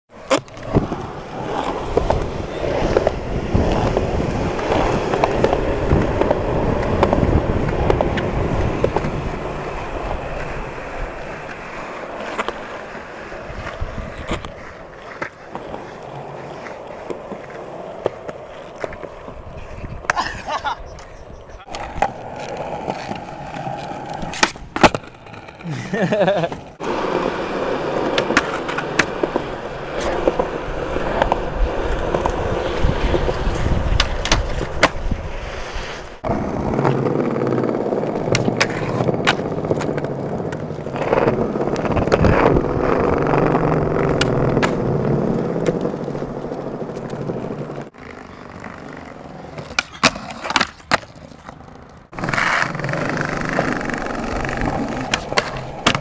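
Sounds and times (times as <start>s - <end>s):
skateboard clacks: 0.1s - 35.2s, 36.2s - 56.0s
skateboards rolling on concrete: 0.1s - 56.0s
skateboard grinding on concrete ledge: 0.2s - 56.0s.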